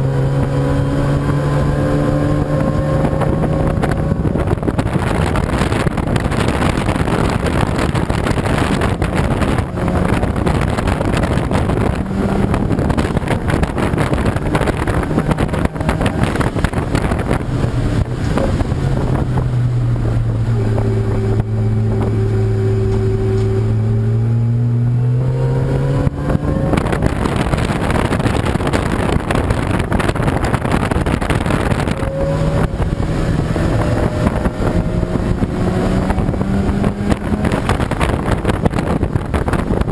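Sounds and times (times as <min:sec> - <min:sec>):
passing race car engine: 0:00.0 - 0:38.4
race car engines: 0:00.0 - 0:39.9.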